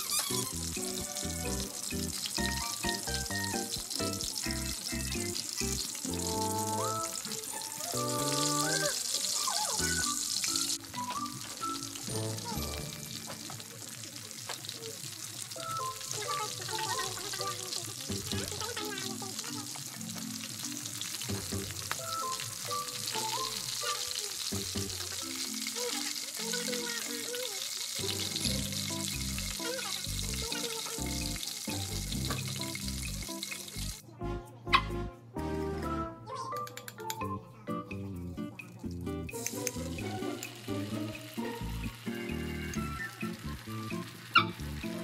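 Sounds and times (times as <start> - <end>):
shrimp sizzling in a pan: 0.0 - 34.0, 39.3 - 45.0
background music: 0.3 - 13.3, 15.5 - 26.3, 28.0 - 45.0.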